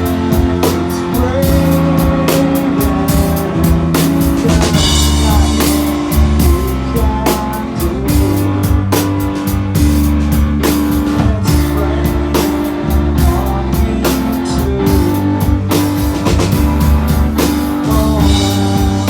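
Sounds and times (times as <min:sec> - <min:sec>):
drum kit beat: 0:00.0 - 0:19.0.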